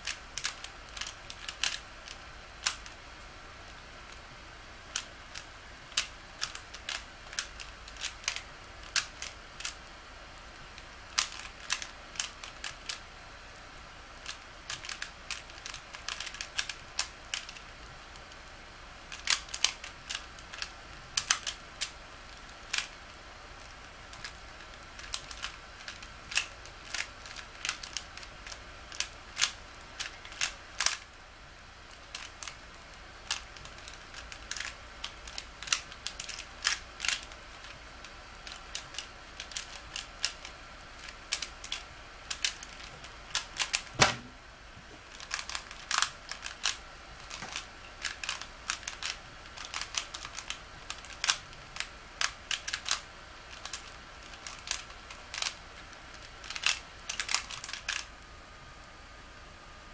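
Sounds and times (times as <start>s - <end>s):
puzzle cube layers clicking: 0.0s - 3.0s, 4.9s - 9.8s, 10.7s - 13.1s, 14.1s - 18.4s, 19.0s - 31.2s, 31.9s - 44.3s, 45.0s - 58.1s.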